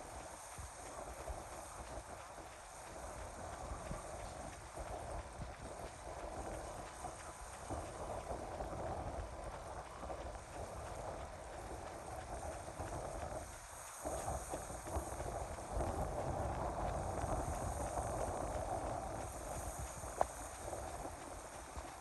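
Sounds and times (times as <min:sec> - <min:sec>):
wind gusting on microphone: 0:00.0 - 0:22.0.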